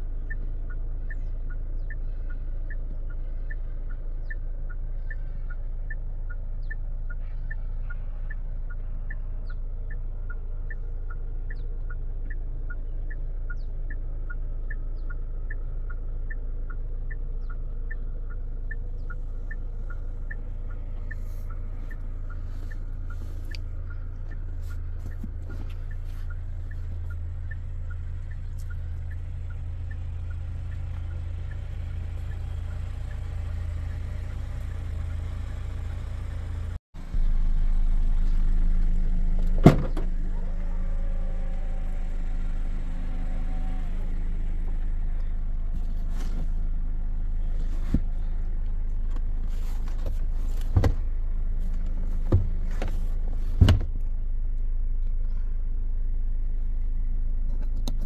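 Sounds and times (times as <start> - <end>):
engine idling hum: 0.0 - 58.0.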